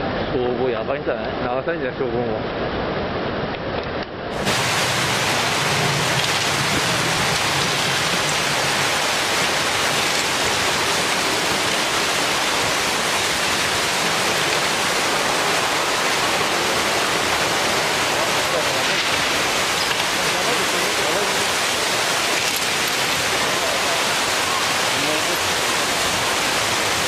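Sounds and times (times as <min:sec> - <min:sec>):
floodwater rushing: 0:04.3 - 0:27.0.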